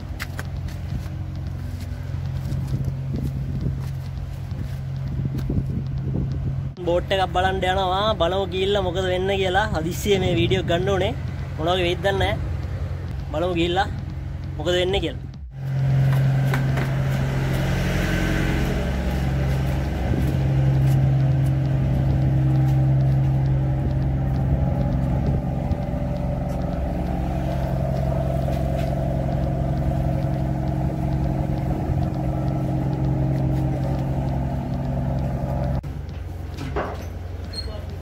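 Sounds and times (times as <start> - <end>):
ship engine humming: 0.0 - 38.0.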